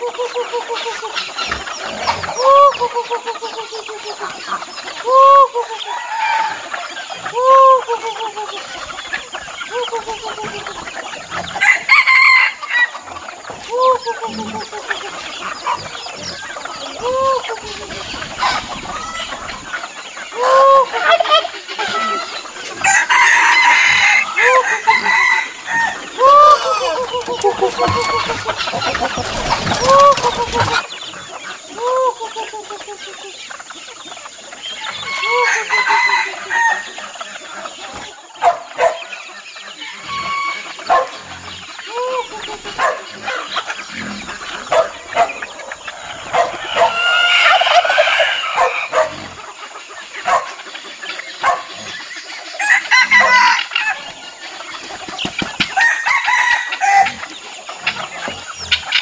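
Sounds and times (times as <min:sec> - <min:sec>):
chickens clucking: 0:00.0 - 0:59.0
roosters crowing: 0:00.0 - 0:59.0.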